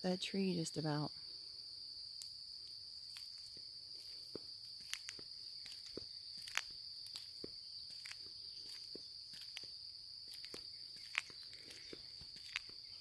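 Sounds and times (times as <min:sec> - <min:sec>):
insects trilling: 0:00.0 - 0:13.0
footsteps crunching on trail: 0:02.2 - 0:13.0.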